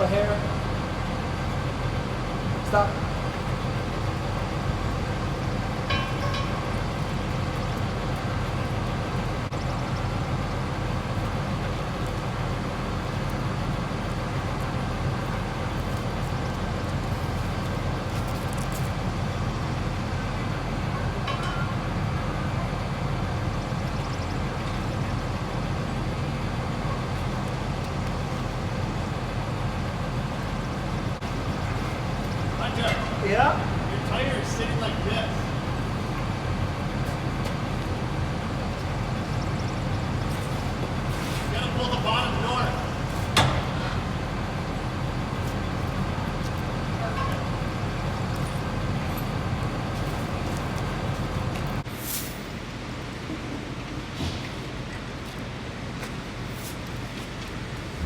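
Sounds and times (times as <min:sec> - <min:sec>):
farm machine engine running: 0:00.0 - 0:51.9.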